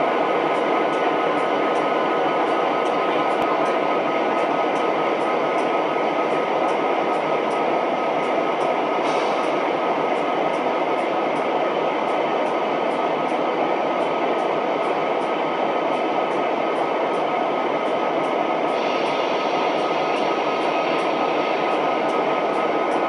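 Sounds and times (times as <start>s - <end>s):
rushing rail noise: 0.0s - 23.0s.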